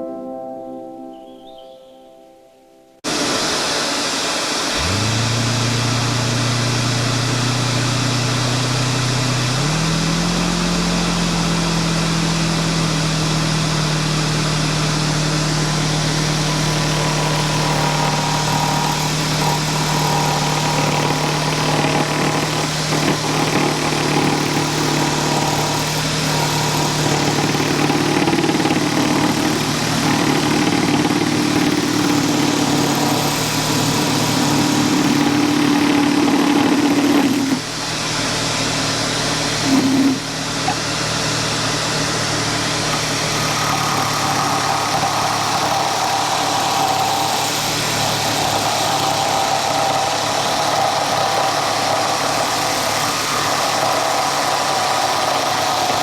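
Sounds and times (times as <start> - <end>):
electric motor humming: 3.1 - 56.0.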